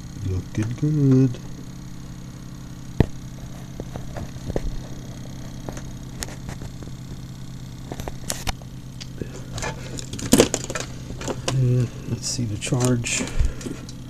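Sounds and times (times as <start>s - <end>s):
pulse charger humming: 0.0s - 14.0s.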